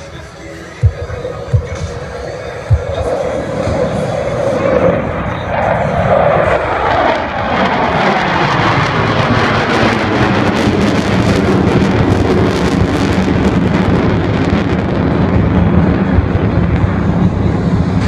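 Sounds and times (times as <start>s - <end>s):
jets roaring overhead: 0.0s - 18.0s.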